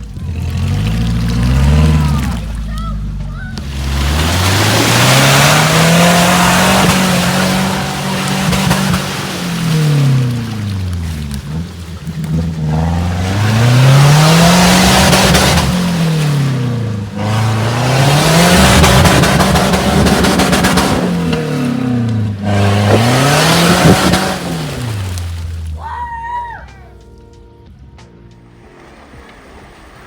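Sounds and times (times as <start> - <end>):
off-road vehicle engine revving: 0.0 - 25.8
tyres spinning through mud: 0.0 - 26.4.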